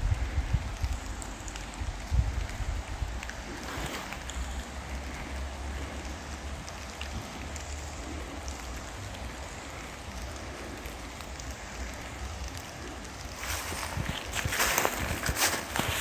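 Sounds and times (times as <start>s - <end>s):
steady hiss: 0.0s - 16.0s
faint ticks: 0.1s - 14.2s.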